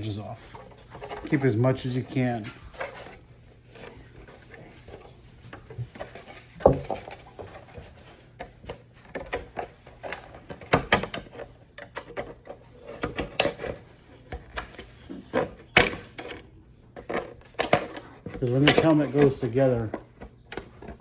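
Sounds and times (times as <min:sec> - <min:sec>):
plastic snipping and crackling: 0:02.7 - 0:21.0.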